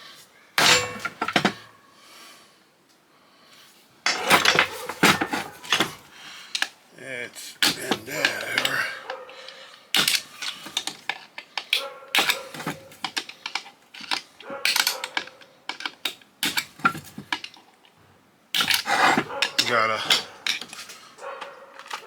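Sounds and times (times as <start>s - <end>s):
metal tools clicking and clattering: 0.6s - 1.7s, 4.0s - 6.8s, 7.6s - 22.0s.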